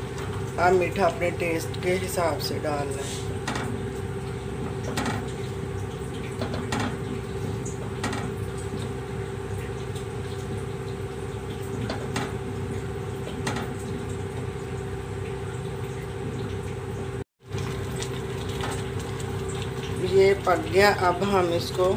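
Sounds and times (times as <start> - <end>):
background hum: 0.0 - 21.9.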